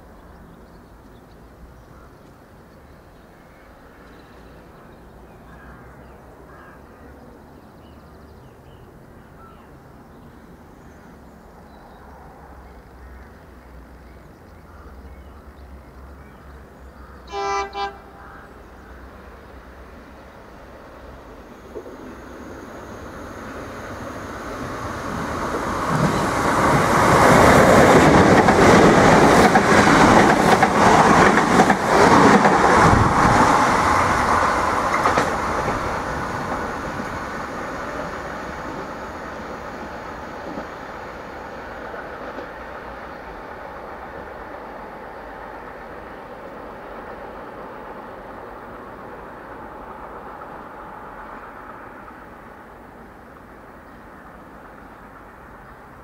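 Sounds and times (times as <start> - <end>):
train passing at speed: 0.0 - 56.0.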